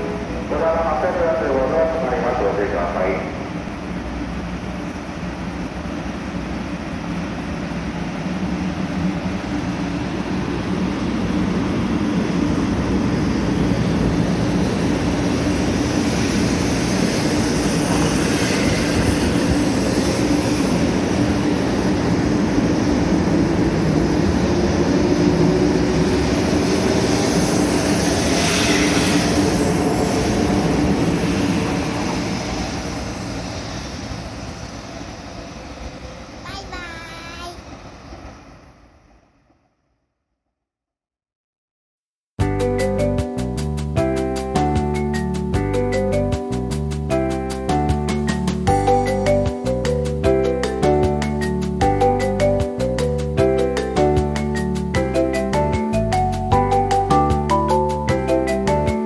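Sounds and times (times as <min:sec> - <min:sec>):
train running noise: 0:00.0 - 0:39.4, 0:42.4 - 0:59.0.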